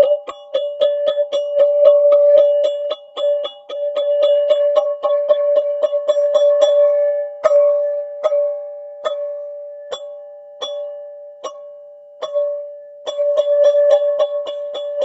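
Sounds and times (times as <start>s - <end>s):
struck tube ringing: 0.0s - 15.0s.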